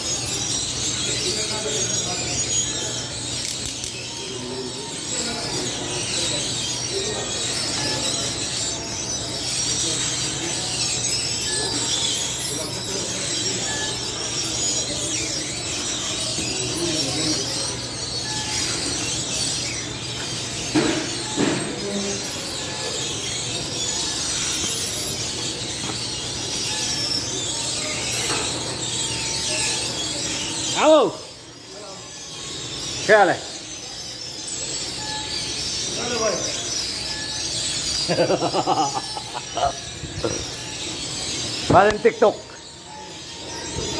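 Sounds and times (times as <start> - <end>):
bakery machinery hiss and hum: 0.0 - 43.9.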